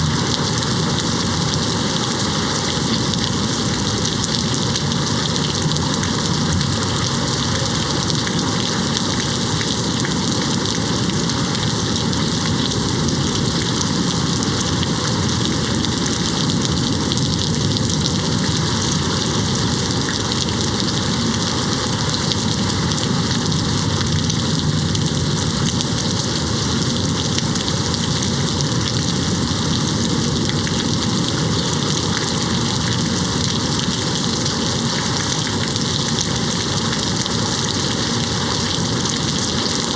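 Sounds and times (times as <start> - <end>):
rain hitting a window: 0.0 - 39.9.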